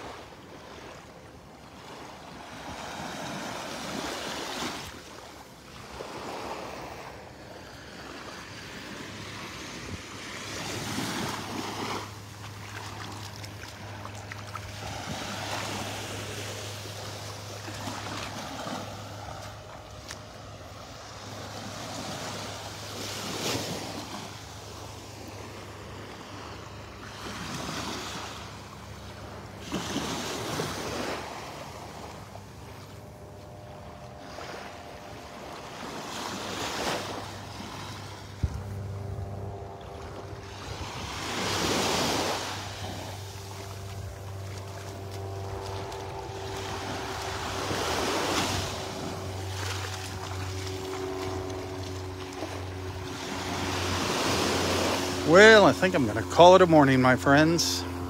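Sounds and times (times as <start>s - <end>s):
waves washing onto beach: 0.0s - 58.0s.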